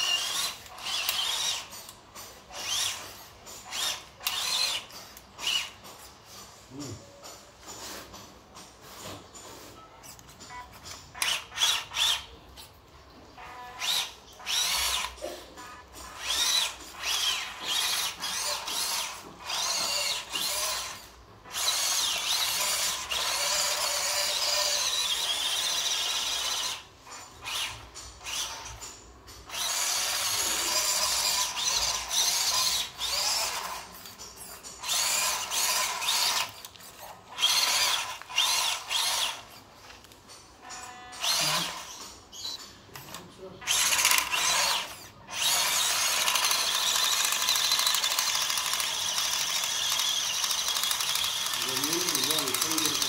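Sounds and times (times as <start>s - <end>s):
toy truck motor whining: 0.0s - 8.1s, 9.0s - 53.0s.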